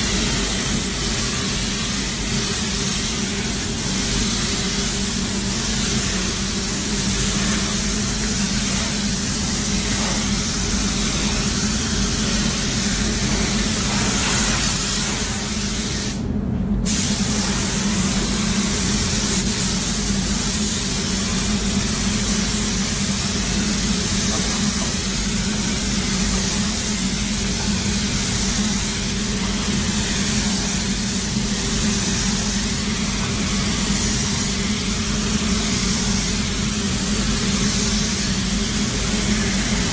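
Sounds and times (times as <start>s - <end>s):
paint spray gun hissing: 0.0s - 16.2s, 16.9s - 39.9s.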